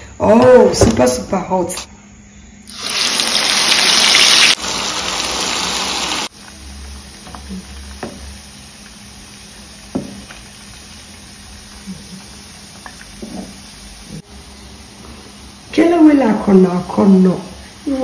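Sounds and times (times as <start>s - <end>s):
food sizzling in hot oil: 2.7s - 18.0s.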